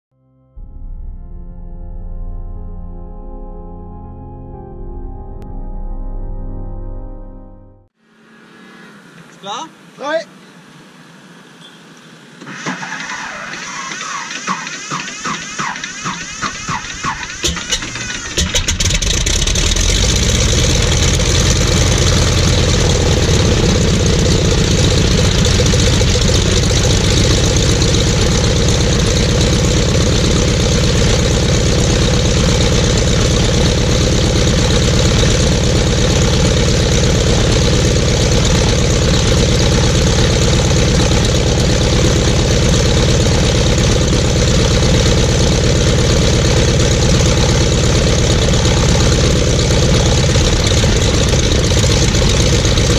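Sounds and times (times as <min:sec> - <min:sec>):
radial aircraft engine idling: 0:10.4 - 0:52.9.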